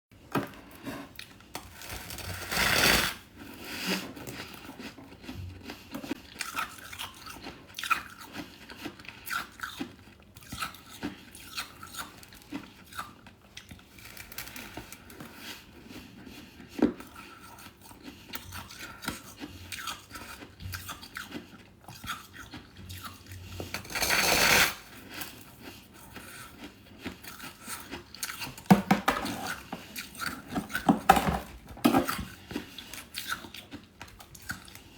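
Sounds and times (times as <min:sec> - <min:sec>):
chewing and crunching frost: 0:00.6 - 0:34.9.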